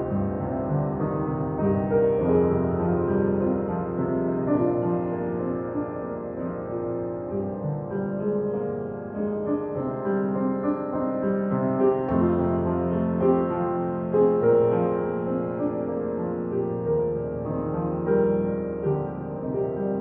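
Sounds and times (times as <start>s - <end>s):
piano notes and chords: 0.0s - 20.0s.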